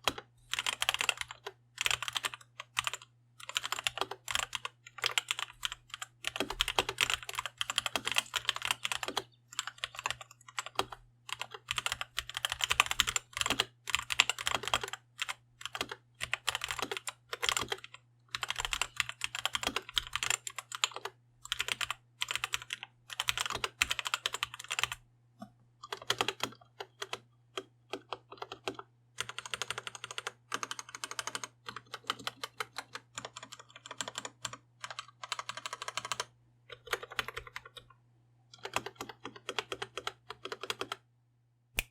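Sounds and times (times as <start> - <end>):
mechanical keyboard typing: 0.0 - 25.0, 25.8 - 37.9, 38.6 - 41.0.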